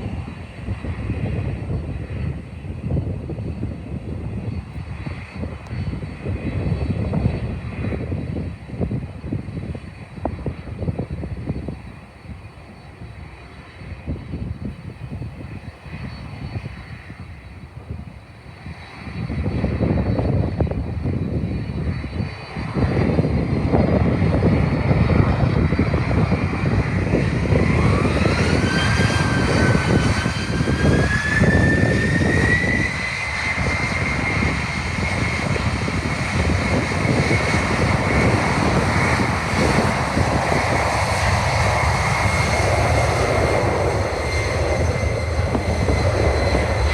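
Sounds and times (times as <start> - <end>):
jet engine whine rising: 0.0 - 46.9
jet engines rumbling: 0.0 - 46.9.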